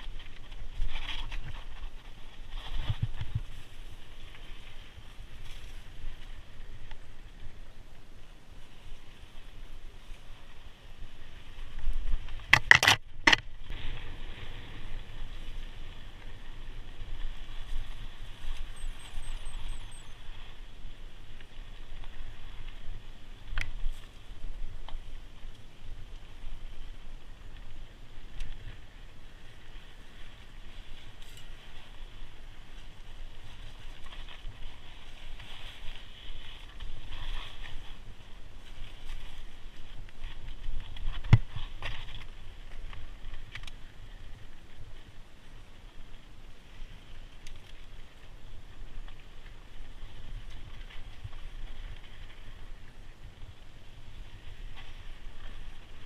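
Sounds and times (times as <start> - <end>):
wind on microphone: 0.0 - 56.0.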